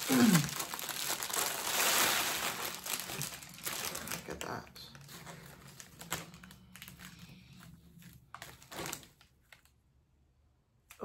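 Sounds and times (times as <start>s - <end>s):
plastic package crinkling: 0.0s - 9.8s.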